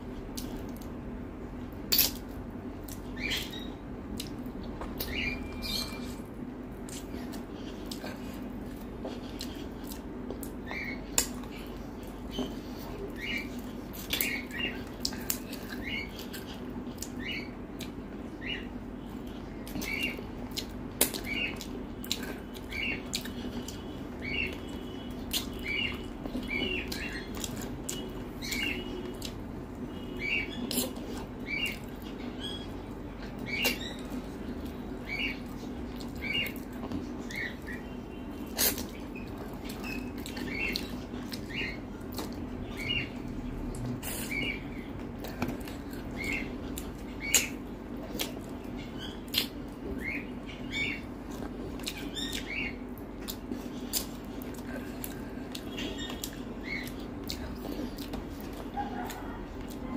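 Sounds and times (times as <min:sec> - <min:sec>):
steady low hum: 0:00.0 - 0:59.9
chewing and lip-smacking: 0:01.7 - 0:05.3, 0:06.0 - 0:59.9.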